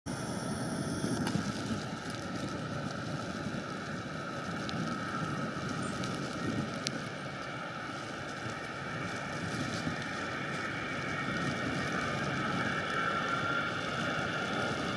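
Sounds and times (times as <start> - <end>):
wind noise on microphone: 0.1 - 14.9.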